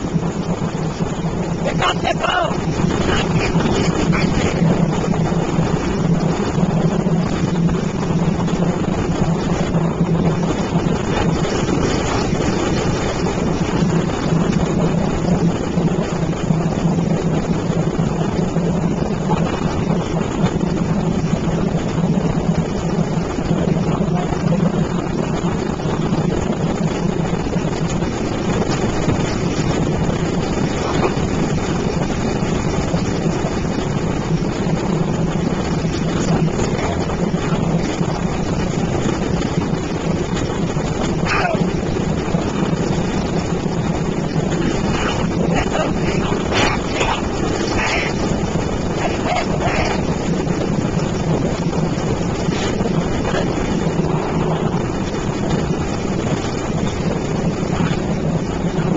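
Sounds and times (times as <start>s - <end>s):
boat motor droning: 0.0s - 58.9s
wind buffeting microphone: 0.0s - 58.9s.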